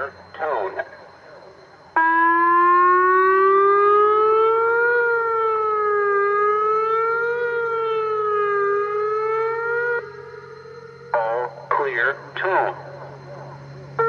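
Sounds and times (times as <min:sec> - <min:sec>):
electronic siren wail: 0:00.0 - 0:14.0.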